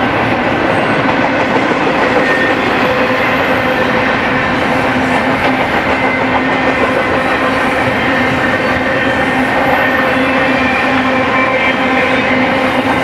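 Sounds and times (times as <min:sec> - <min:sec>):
steel train wheels rolling on rail: 0:00.0 - 0:13.0.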